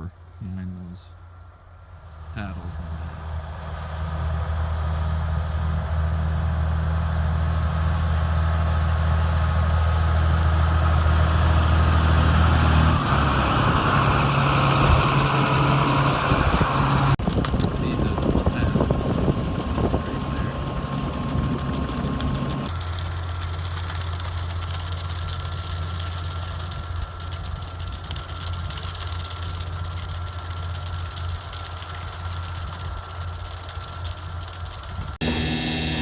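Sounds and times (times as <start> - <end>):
machinery engine running: 0.5 - 36.0.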